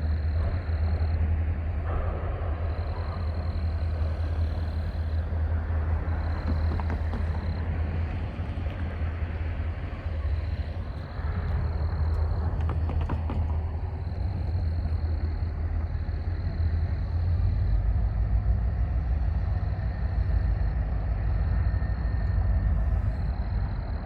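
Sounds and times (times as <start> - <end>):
locomotive deep engine hum: 0.0 - 24.0.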